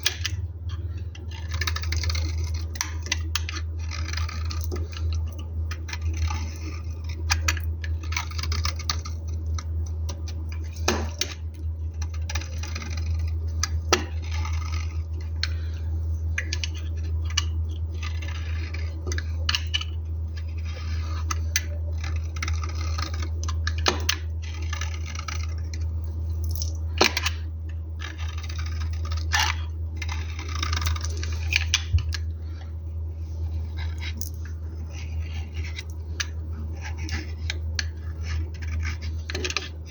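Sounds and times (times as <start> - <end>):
knife scraping through soap: 0.0 - 26.2, 27.0 - 39.9
steady low hum: 0.0 - 39.9.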